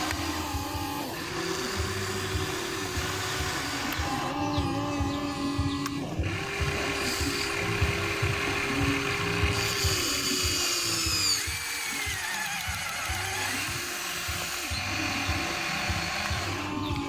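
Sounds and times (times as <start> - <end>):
toy excavator motors whining: 0.0 - 17.0.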